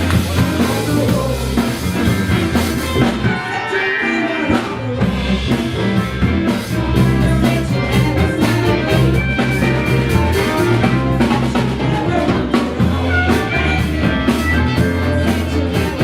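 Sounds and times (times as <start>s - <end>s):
bass line: 0.0s - 16.0s
drum kit beat: 0.0s - 16.0s
electric guitar: 0.0s - 16.0s.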